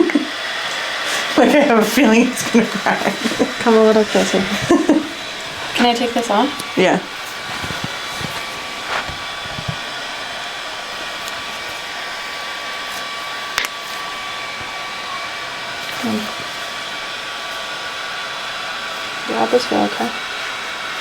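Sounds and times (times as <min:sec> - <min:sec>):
electric cooling fan whooshing: 0:00.0 - 0:21.0
thin steady whine: 0:00.0 - 0:21.0.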